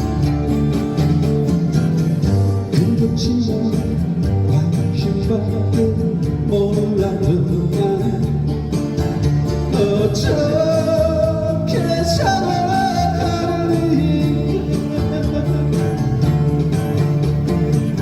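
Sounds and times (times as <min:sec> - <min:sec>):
bass: 0:00.0 - 0:18.0
steady beat: 0:00.0 - 0:18.0
strummed guitar: 0:00.0 - 0:18.0.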